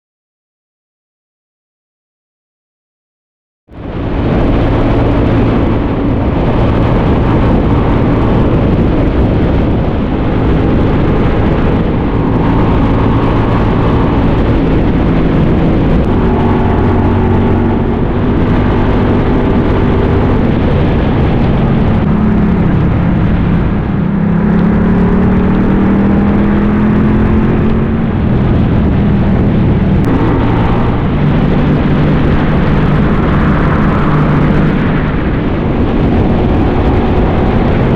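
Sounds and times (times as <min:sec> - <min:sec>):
motorcycle engine running: 0:03.7 - 0:37.9.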